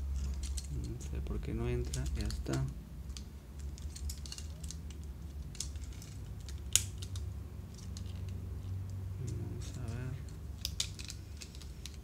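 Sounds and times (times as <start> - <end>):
steady low hum: 0.0 - 12.0
plastic toy parts clicking: 0.2 - 1.0, 1.8 - 8.4, 9.3 - 12.0.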